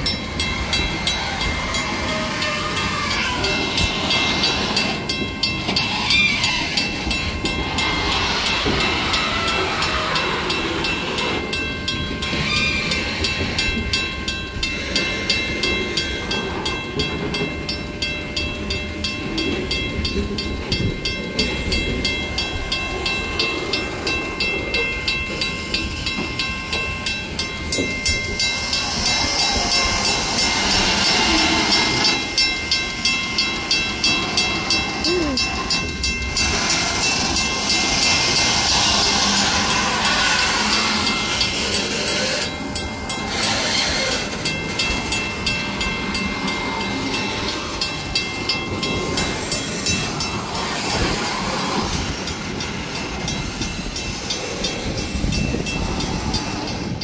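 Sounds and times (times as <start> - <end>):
wheel squeals: 0.0 - 52.3
freight train rumble: 0.0 - 57.0
level crossing bell ringing: 0.0 - 57.0
wheels clacking over rail joints: 0.0 - 57.0.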